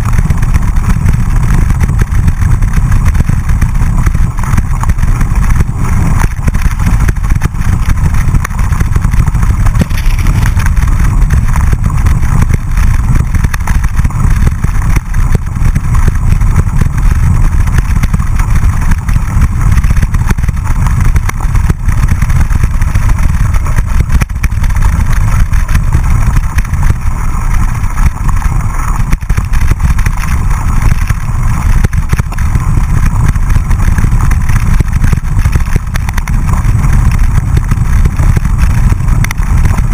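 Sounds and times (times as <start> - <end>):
bike rattling over bumps: 0.0 - 39.9
wind rumble on camera: 0.0 - 39.9.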